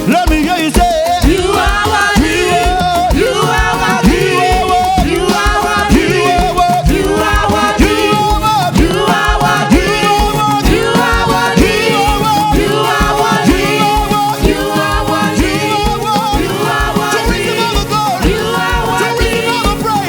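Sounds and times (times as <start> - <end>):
church band playing: 0.0 - 20.0
steady drum beat: 0.0 - 20.0
voices singing: 0.0 - 20.0.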